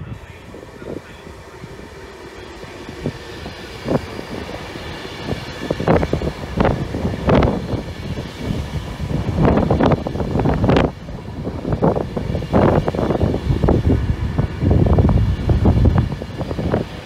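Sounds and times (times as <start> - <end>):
electric train passing: 0.0 - 17.0
wheels rushing on rail: 0.0 - 17.0.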